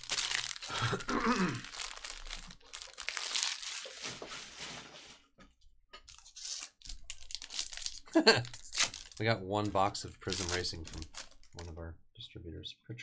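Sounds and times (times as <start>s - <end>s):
foil wrappers crinkling: 0.0s - 5.2s, 6.1s - 11.6s.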